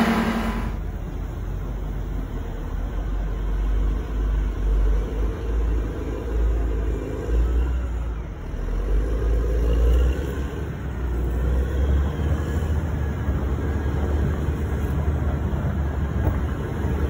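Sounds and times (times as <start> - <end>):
diesel engine rumble: 0.0 - 17.0.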